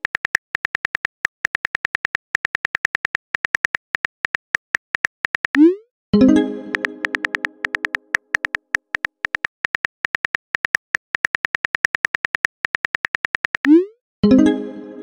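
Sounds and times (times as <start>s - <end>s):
phone keyboard clicks: 0.0s - 5.6s, 6.7s - 13.7s.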